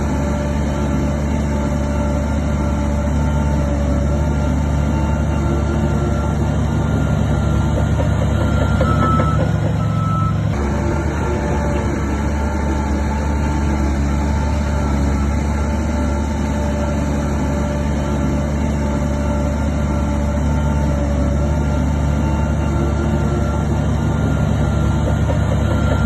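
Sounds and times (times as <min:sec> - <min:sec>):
diesel engine running: 0:00.0 - 0:26.0
reversing alarm beeping: 0:00.0 - 0:26.0.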